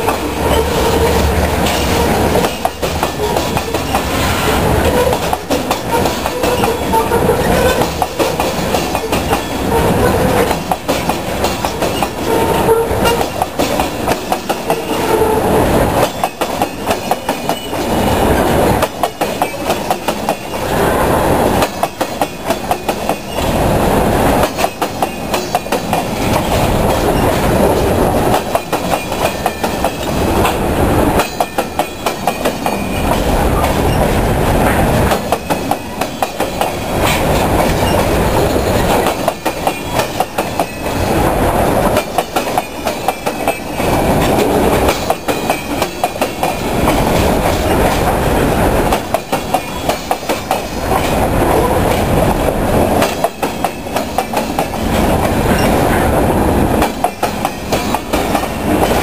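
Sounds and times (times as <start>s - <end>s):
wheels clacking over rail joints: 0.0s - 23.6s, 24.2s - 55.9s, 56.6s - 59.0s
freight train wheels rumbling: 0.0s - 59.0s.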